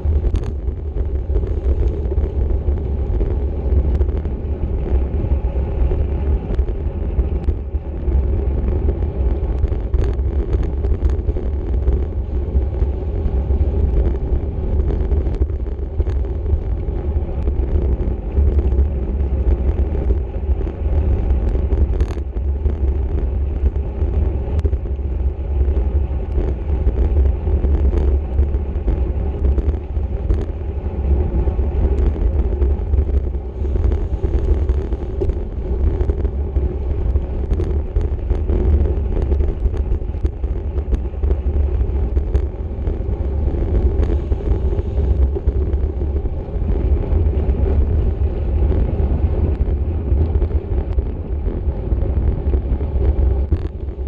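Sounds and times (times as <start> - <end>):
road and tyre noise: 0.0 - 54.0
wind rumble on microphone: 0.0 - 54.0.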